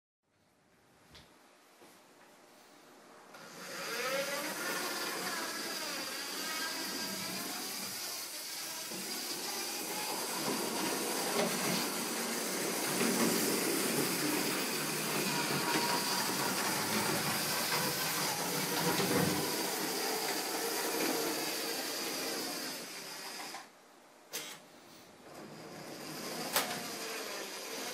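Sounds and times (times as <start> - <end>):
model locomotive running on track: 3.4 - 23.6, 25.4 - 27.9.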